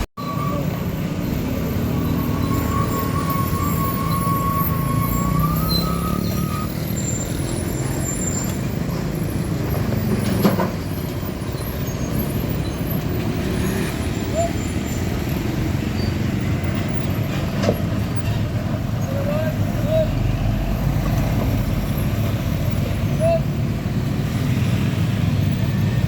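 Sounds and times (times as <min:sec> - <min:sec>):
diesel trucks rumbling: 0:00.0 - 0:26.0.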